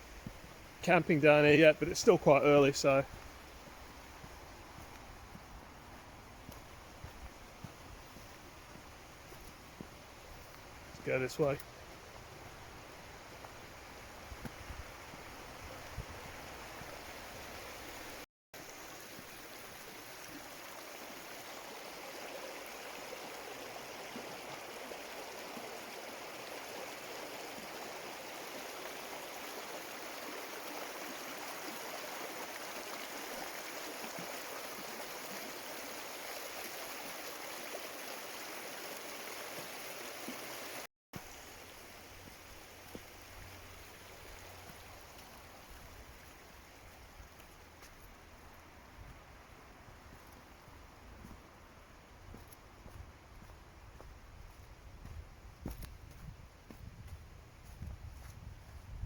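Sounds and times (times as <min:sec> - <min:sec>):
stream running: 0:00.0 - 0:58.9.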